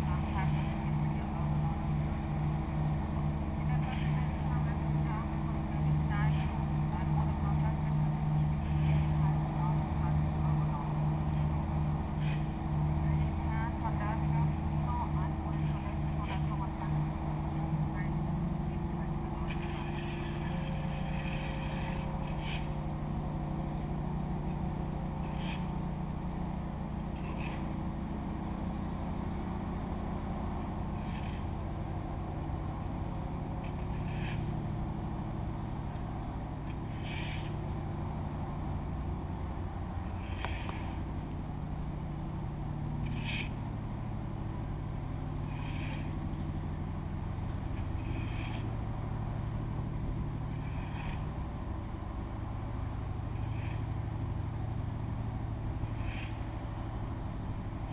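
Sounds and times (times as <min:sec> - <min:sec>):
ship diesel engines droning: 0:00.0 - 0:57.9.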